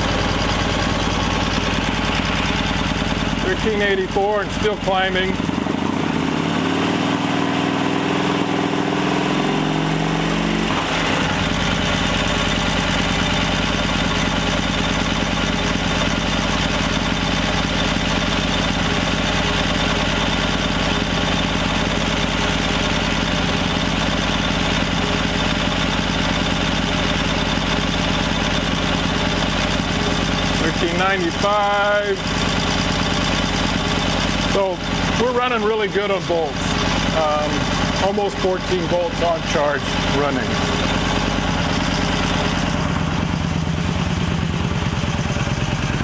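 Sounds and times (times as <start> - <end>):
motorcycle engine idling: 0.0 - 6.2, 10.9 - 46.0.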